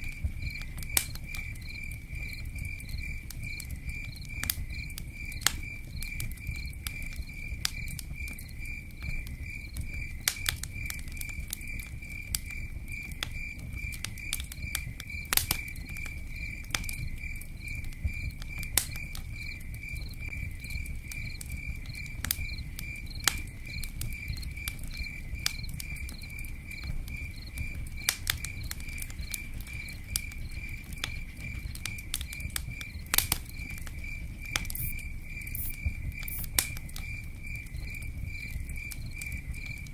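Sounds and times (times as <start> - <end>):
campfire crackling and popping: 0.0 - 39.9
cricket chirping: 0.0 - 39.9.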